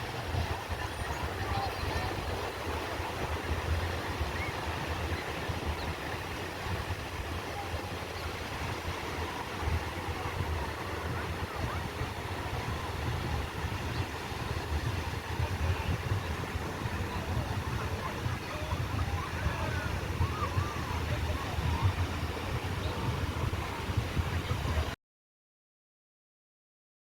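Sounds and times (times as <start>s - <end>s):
ocean surf washing: 0.0s - 24.9s
wind buffeting microphone: 0.0s - 25.0s.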